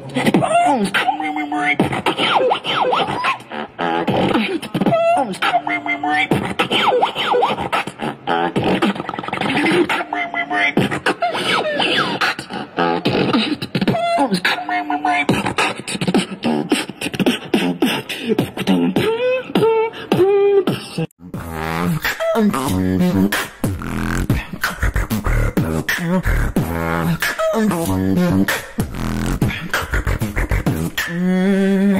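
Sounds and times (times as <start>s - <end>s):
person beatboxing: 0.0s - 31.9s.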